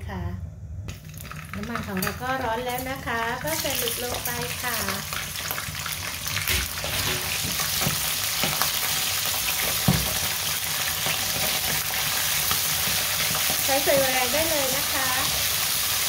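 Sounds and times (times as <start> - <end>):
squid sizzling in hot oil: 0.9 - 16.0.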